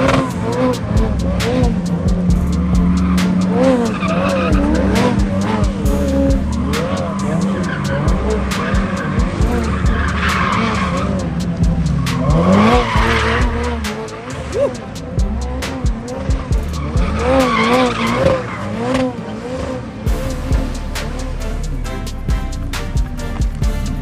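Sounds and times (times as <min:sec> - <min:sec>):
low pulses: 0:00.0 - 0:18.2, 0:20.1 - 0:24.0
car engine running hard: 0:00.0 - 0:24.0
tyres skidding: 0:00.0 - 0:24.0.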